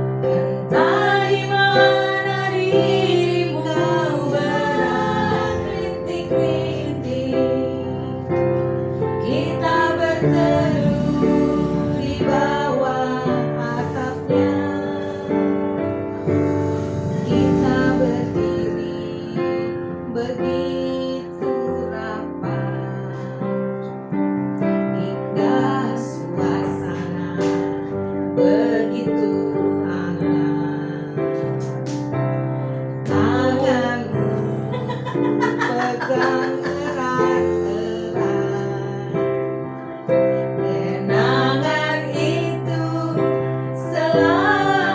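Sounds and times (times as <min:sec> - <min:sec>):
women singing: 0:00.0 - 0:23.6, 0:24.9 - 0:31.9, 0:33.0 - 0:39.6, 0:40.3 - 0:44.9
digital piano playing chords: 0:00.0 - 0:44.9.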